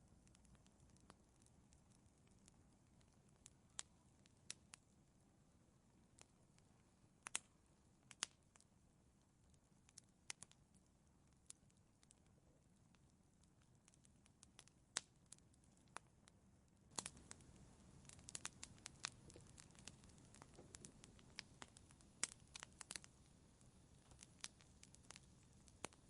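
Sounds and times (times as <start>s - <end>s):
faint low hiss: 0.0s - 26.0s
wood fire crackling: 0.0s - 26.0s.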